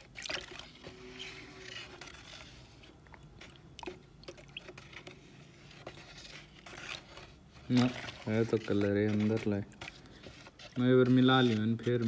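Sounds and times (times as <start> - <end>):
stick stirring thick paint: 0.0 - 12.0.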